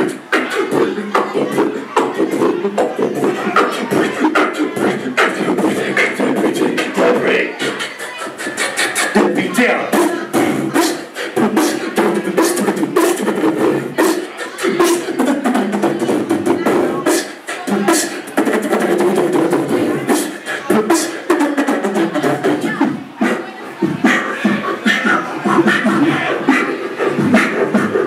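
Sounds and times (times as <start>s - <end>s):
man beatboxing: 0.0s - 28.0s.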